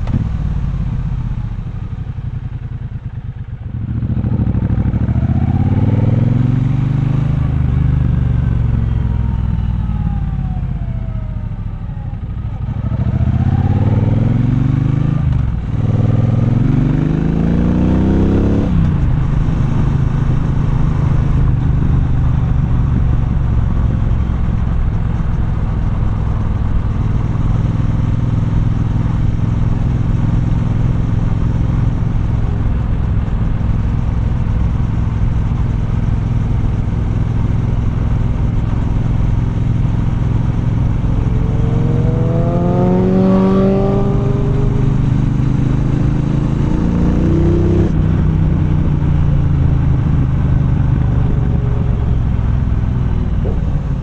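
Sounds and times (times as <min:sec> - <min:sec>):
motorcycle engine revving: 0:00.0 - 0:09.5, 0:12.5 - 0:54.0.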